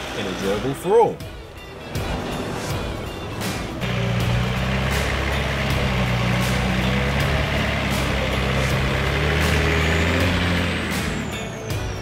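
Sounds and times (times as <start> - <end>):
vehicle engine running at low revs: 2.0 - 12.0.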